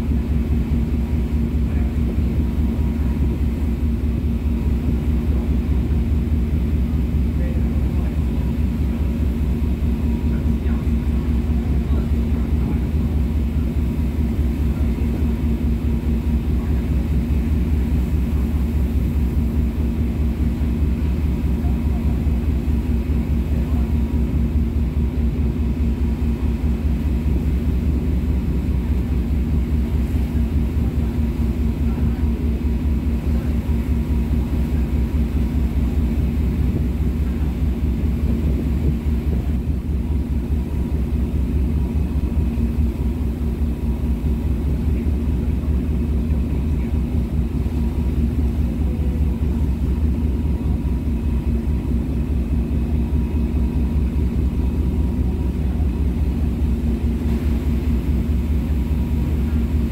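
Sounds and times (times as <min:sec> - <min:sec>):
ferry engine humming: 0:00.0 - 0:59.9.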